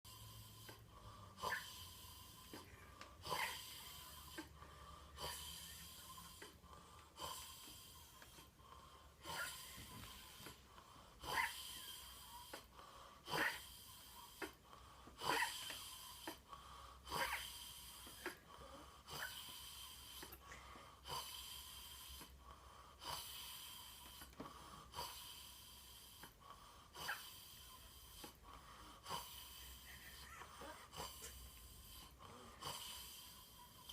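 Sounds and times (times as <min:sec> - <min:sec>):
person snoring with wheeze: 0:00.1 - 0:33.9.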